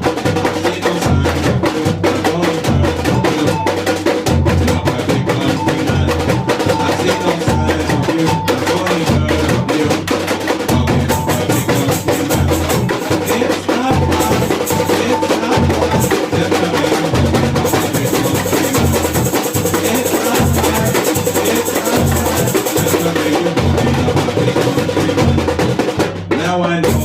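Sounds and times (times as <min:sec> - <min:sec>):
clacking high percussion: 0:00.0 - 0:27.0
samba drum ensemble: 0:00.0 - 0:27.0.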